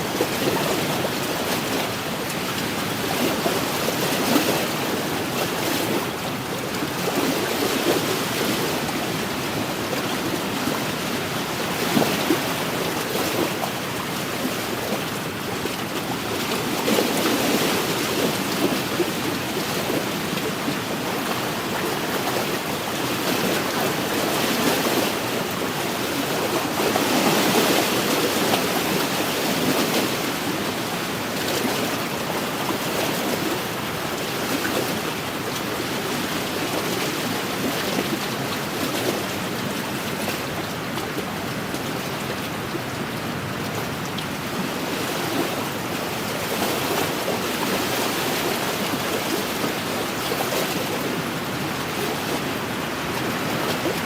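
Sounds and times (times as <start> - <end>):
waves lapping on a shore: 0.0 - 54.0.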